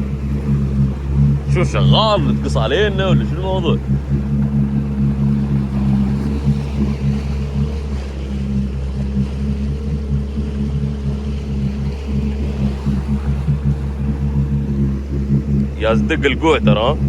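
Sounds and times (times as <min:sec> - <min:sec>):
jet ski engine humming: 0:00.0 - 0:17.0
water wash: 0:00.0 - 0:17.0.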